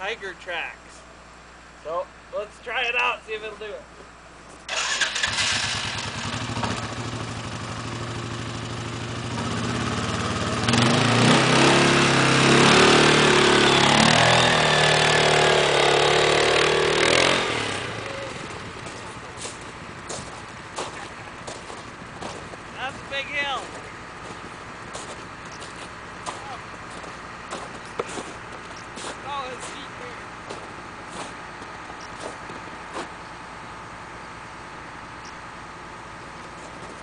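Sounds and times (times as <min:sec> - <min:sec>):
atv engine revving: 0:04.6 - 0:37.0.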